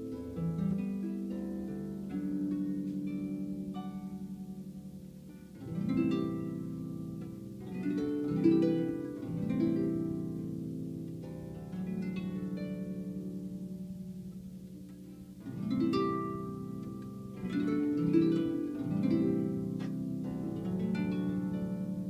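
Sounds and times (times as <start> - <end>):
harp played softly: 0.0 - 22.0.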